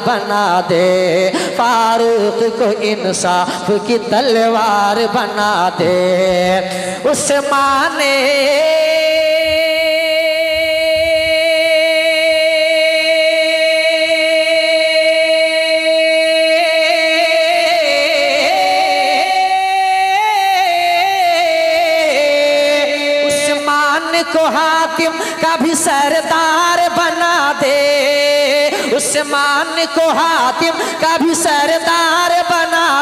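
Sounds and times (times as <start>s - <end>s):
man singing a long note: 0.0s - 33.0s.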